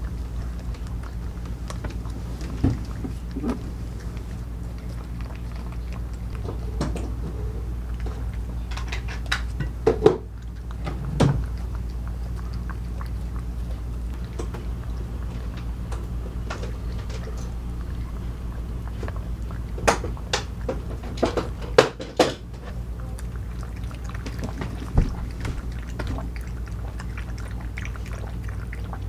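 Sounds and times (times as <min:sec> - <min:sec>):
dog crunching kibble: 0:00.0 - 0:29.0.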